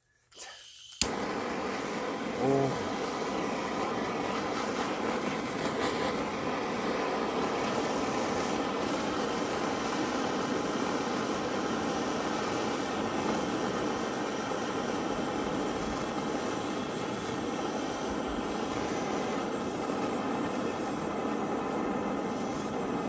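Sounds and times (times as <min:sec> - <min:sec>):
butane torch flame hiss: 0:00.3 - 0:23.0.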